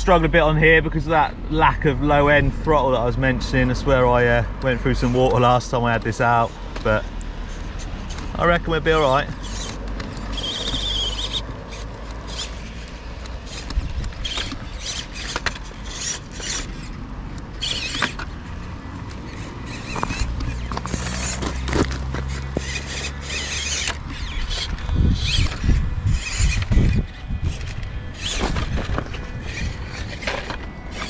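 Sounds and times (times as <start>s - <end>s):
tyres scraping on rocks: 1.1s - 31.0s
small electric motor whirring: 1.8s - 31.0s.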